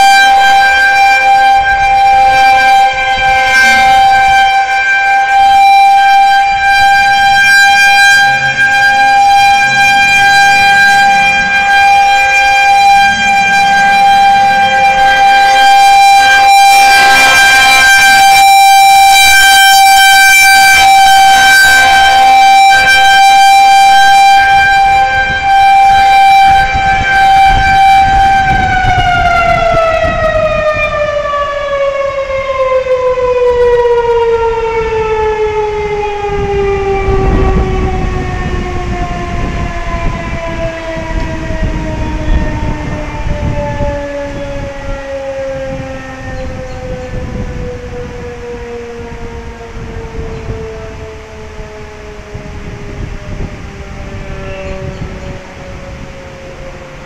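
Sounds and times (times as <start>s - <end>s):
warning siren steady high tone: 0.0s - 57.0s.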